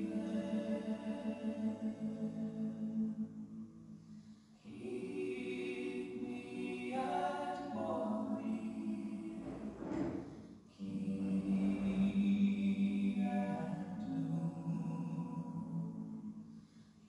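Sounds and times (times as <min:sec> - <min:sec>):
a cappella choir singing: 0:00.0 - 0:17.0.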